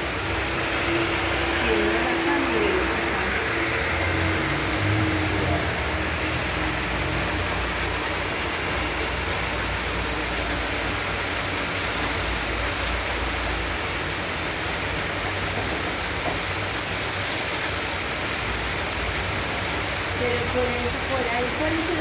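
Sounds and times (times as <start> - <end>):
heavy rain hiss: 0.0 - 22.0.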